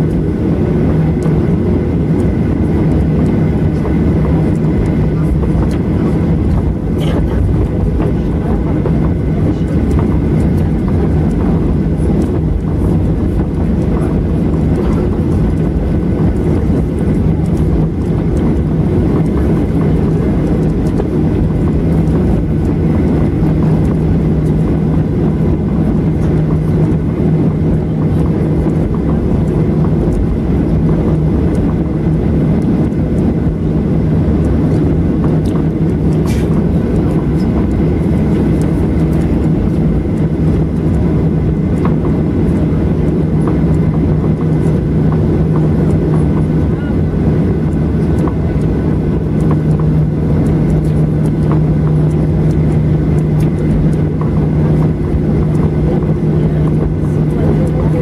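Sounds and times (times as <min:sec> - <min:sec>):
jet engine cabin drone: 0:00.0 - 0:58.0.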